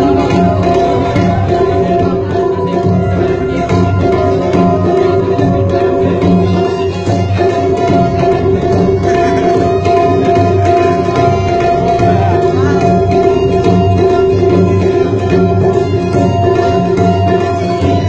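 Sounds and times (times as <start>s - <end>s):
tabla drums played by hand: 0.0s - 18.0s.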